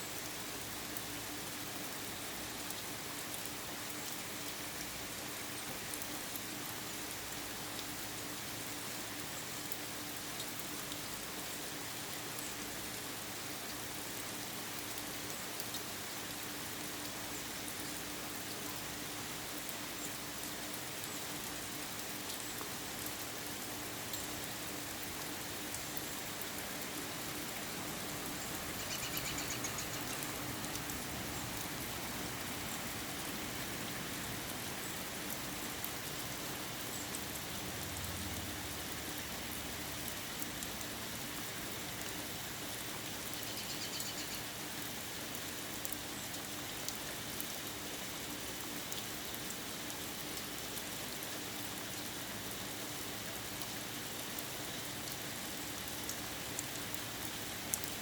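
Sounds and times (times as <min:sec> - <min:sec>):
individual raindrops: 0:00.0 - 0:58.0
rain falling on foliage: 0:00.0 - 0:58.0.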